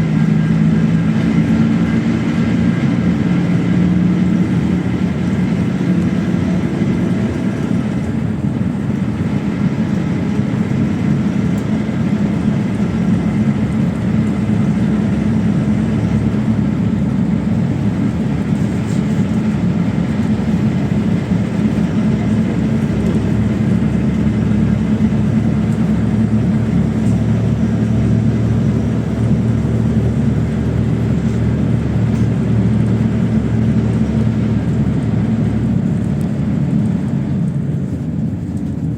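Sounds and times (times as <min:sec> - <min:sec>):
bus engine drone: 0:00.0 - 0:38.9
road rumble noise: 0:00.0 - 0:38.9.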